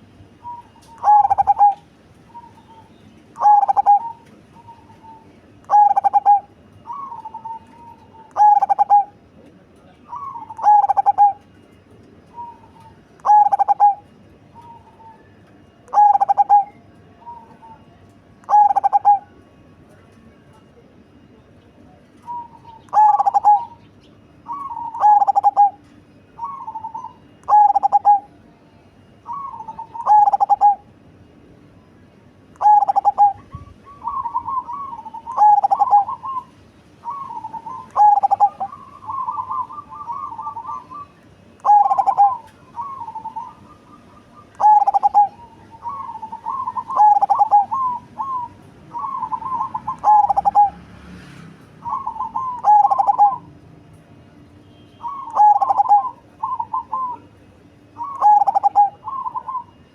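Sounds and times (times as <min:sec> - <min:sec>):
dove cooing: 0:00.0 - 0:09.4, 0:10.0 - 0:19.5, 0:22.2 - 0:28.4, 0:29.0 - 0:30.9, 0:32.5 - 0:51.1, 0:51.8 - 0:53.9, 0:55.0 - 0:59.9.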